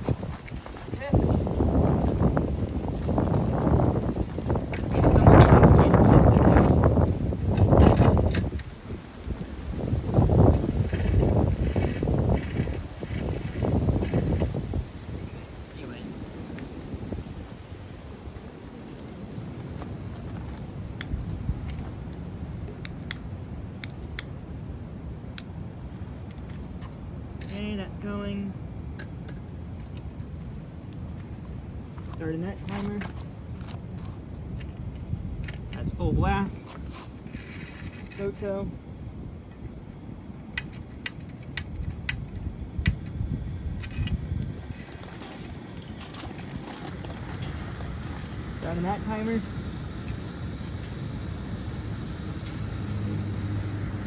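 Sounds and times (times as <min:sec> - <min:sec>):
low wind rumble: 0:00.0 - 0:54.0.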